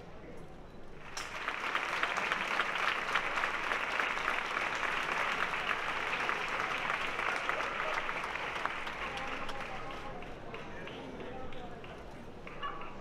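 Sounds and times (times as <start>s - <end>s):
crowd applauding: 1.0s - 13.0s.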